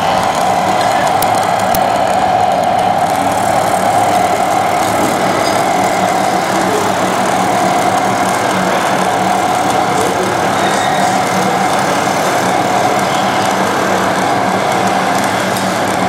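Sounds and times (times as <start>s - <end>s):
engine-like drone: 0.0s - 16.0s
mid-pitched whine: 0.0s - 16.0s.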